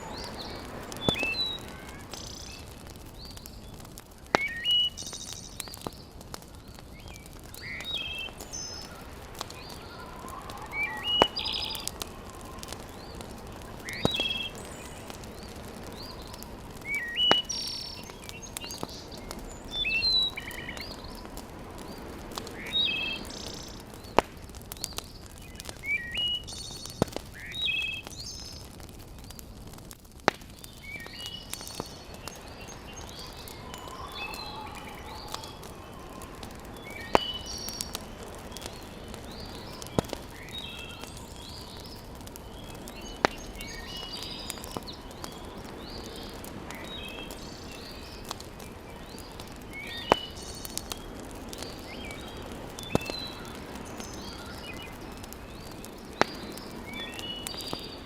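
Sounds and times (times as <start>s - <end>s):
birds whistling: 0.0s - 3.5s, 4.3s - 5.9s, 7.0s - 24.1s, 24.8s - 28.7s, 30.7s - 48.3s, 49.0s - 58.0s
wood fire popping: 0.0s - 58.0s.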